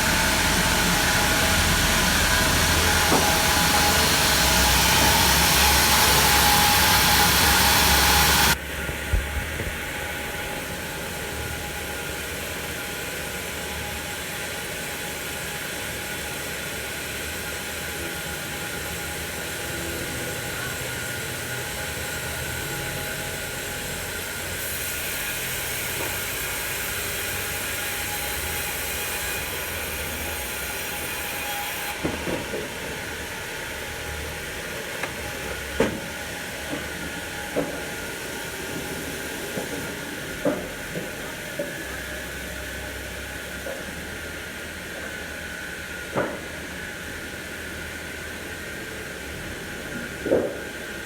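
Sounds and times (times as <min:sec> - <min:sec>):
sawmill machinery humming: 0:00.0 - 0:51.0.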